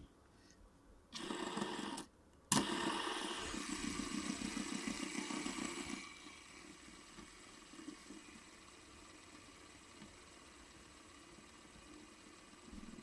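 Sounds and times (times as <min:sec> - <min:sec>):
fidget spinner whirring: 0:01.1 - 0:13.0.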